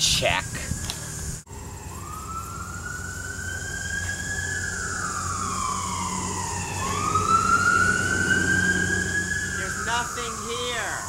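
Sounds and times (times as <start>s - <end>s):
siren wailing: 0.1s - 11.0s.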